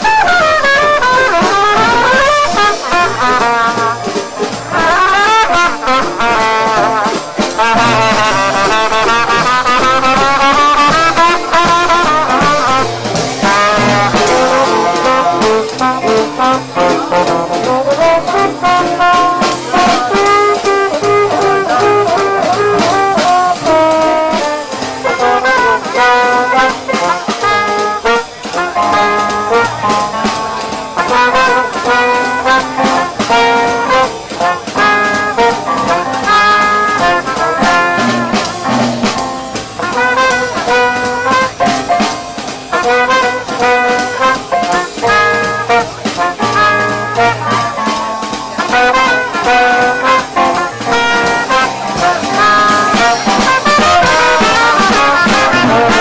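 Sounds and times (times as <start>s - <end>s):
trumpet and trombone jazz: 0.0s - 56.0s.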